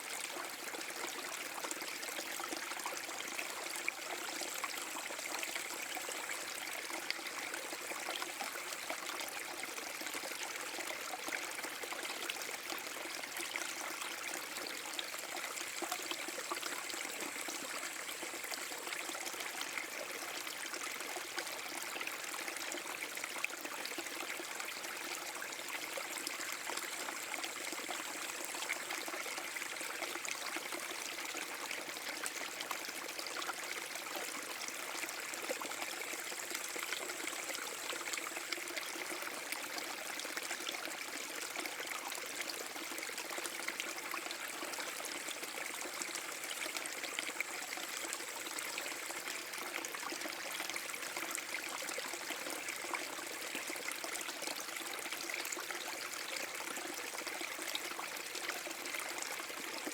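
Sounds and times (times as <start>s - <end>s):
brook trickling over small waterfall: 0.0s - 59.9s.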